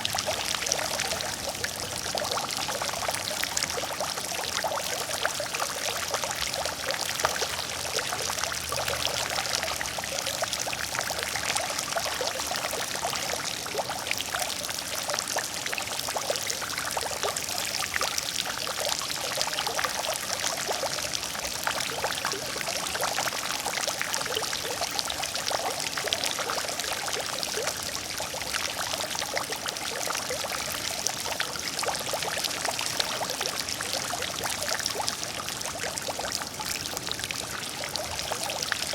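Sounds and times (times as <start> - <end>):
fountain water splashing into pool: 0.0 - 38.9.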